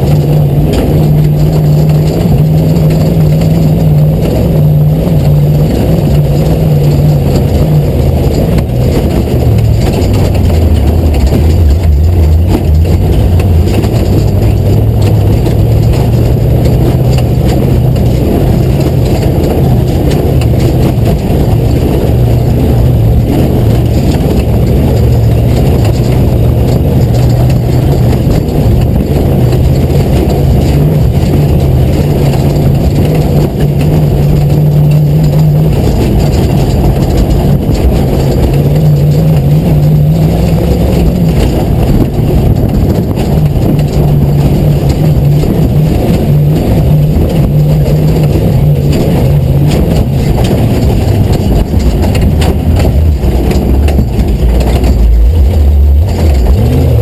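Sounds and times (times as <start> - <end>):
truck engine running hard: 0.0 - 57.0
tyre rumble on dirt: 0.0 - 57.0.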